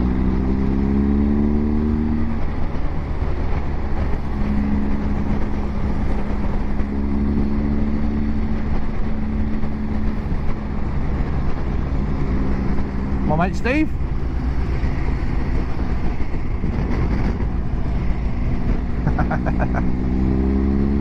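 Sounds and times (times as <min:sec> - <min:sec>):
motorcycle engine drone: 0:00.0 - 0:21.0
wind and road noise: 0:00.0 - 0:21.0.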